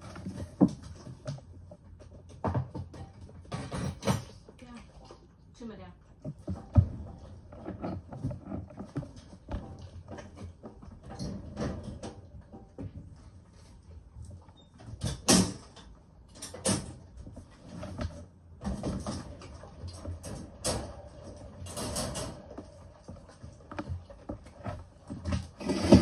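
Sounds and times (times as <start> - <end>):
knocks and clatters: 0.0 - 5.4, 6.1 - 26.0.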